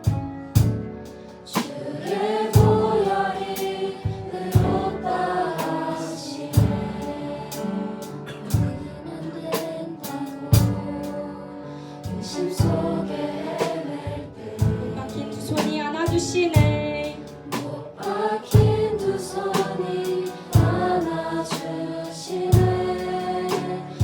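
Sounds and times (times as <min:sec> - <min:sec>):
piano: 0:00.0 - 0:24.0
voices singing praise song: 0:01.5 - 0:24.0.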